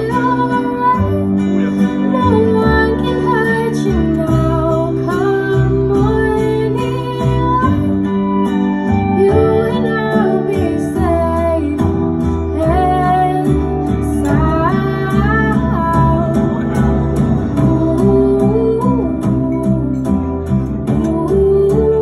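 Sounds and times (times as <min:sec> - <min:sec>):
plucked guitar: 0:00.0 - 0:22.0
woman singing pop song: 0:00.0 - 0:22.0.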